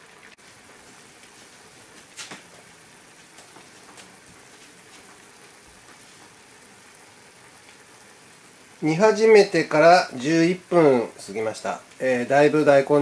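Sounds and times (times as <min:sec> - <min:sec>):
broth bubbling in a saucepan: 0:00.0 - 0:13.0.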